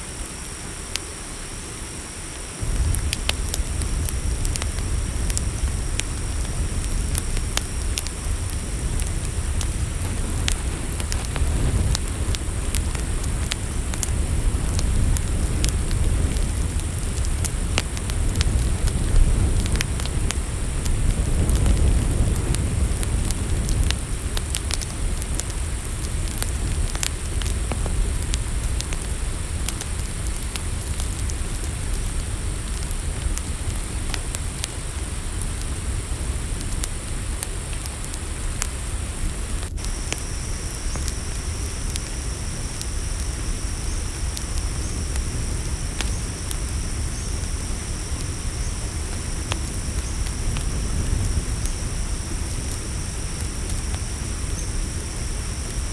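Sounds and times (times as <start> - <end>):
high-pitched cricket chorus: 0.0 - 55.9
lower insect trill: 0.0 - 55.9
campfire crackling and popping: 0.1 - 55.9.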